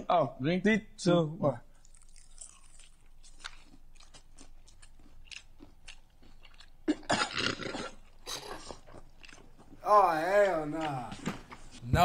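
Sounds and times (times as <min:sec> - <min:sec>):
crunchy chewing: 0:01.7 - 0:11.8.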